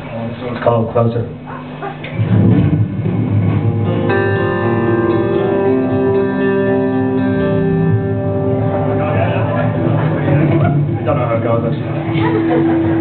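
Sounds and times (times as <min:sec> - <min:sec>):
guitar chords ringing: 0:02.1 - 0:13.0
live band playing: 0:02.1 - 0:13.0.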